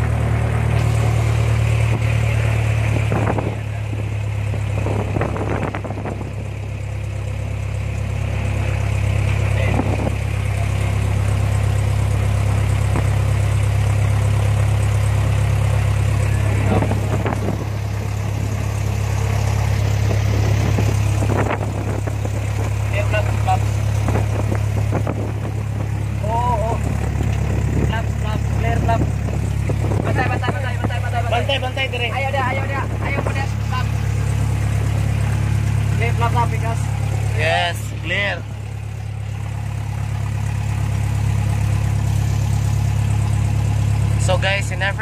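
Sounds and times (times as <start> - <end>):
propeller aircraft engine droning: 0.0 - 45.0.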